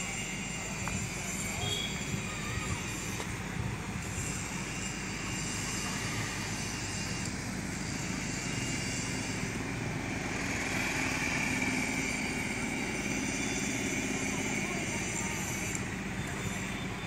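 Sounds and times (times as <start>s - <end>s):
motorcycle engines passing: 0.0s - 17.0s
road traffic noise: 0.0s - 17.0s.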